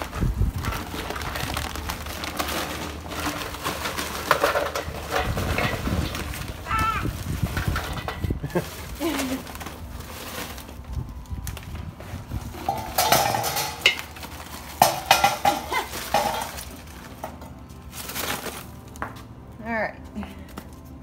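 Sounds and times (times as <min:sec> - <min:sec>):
charcoal clattering against metal: 0:00.0 - 0:19.1.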